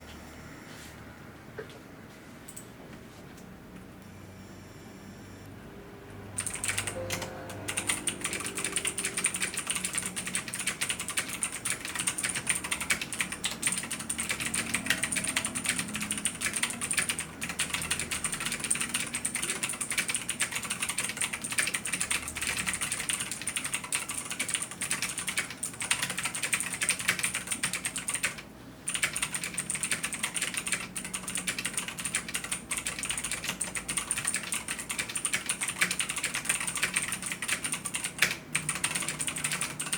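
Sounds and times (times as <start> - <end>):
fast typing on mechanical keyboard: 6.4 - 39.9.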